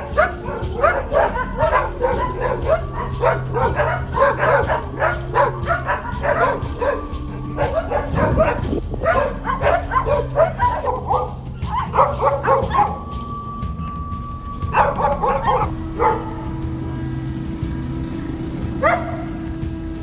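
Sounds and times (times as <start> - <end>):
dogs barking: 0.0 - 13.4, 14.6 - 20.0
steady low hum: 0.0 - 20.0.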